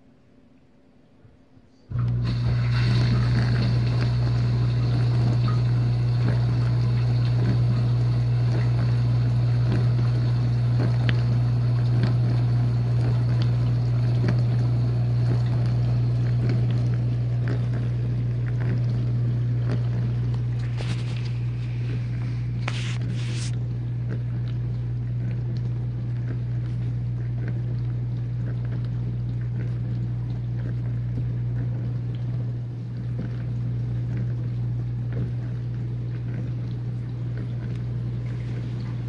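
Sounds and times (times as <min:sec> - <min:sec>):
dishwasher pump humming: 0:00.0 - 0:39.0
water spraying inside dishwasher: 0:01.9 - 0:39.0.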